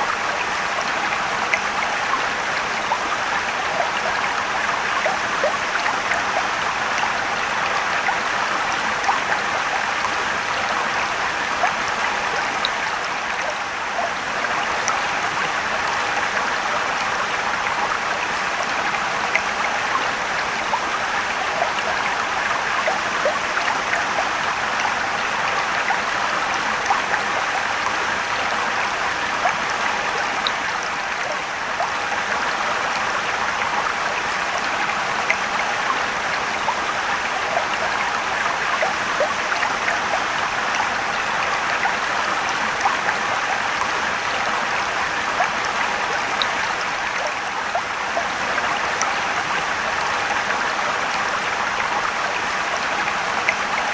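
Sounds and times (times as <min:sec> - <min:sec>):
stream water rushing and splashing: 0:00.0 - 0:53.9.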